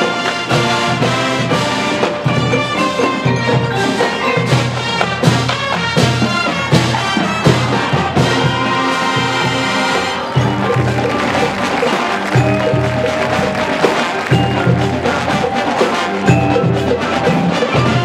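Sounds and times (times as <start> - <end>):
brass: 0.0 - 18.0
marching band playing: 0.0 - 18.0
marimba and xylophone: 0.0 - 18.0.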